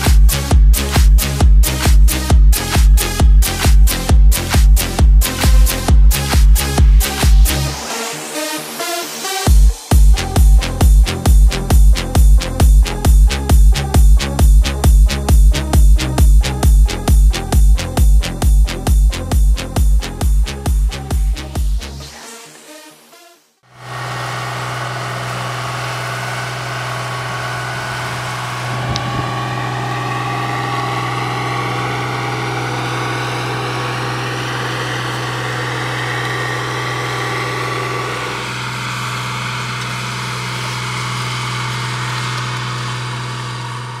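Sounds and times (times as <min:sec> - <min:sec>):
diesel engine running: 0:00.0 - 0:08.6, 0:09.4 - 0:21.6, 0:23.7 - 0:44.0.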